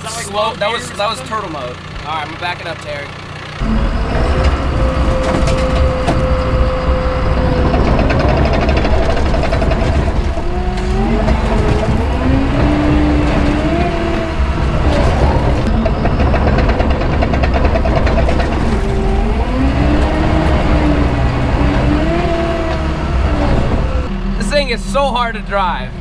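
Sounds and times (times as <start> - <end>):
diesel engine running under load: 0.0 - 26.0
metallic squeals and creaks: 3.6 - 26.0.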